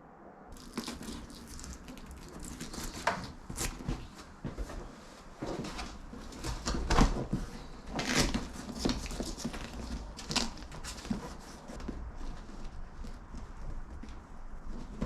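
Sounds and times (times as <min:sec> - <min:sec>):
fabric and plastic scraping: 0:00.6 - 0:15.0.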